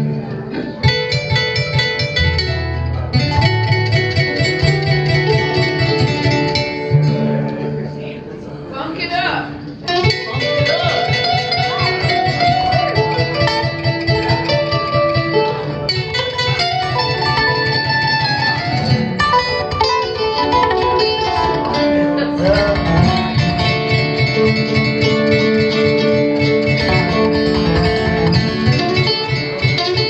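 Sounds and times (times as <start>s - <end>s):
plucked lute: 0.0s - 8.2s, 9.5s - 30.0s
plucked guitar: 0.0s - 30.0s
percussion beat: 0.4s - 7.1s, 9.6s - 30.0s.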